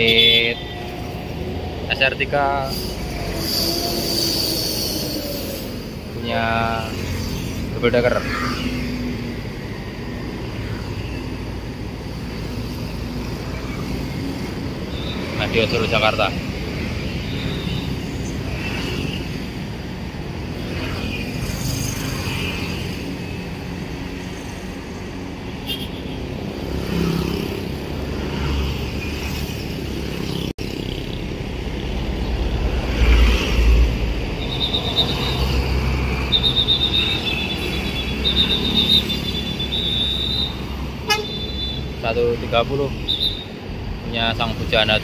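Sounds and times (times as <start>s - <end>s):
motorcycles and cars passing: 0.0s - 45.0s.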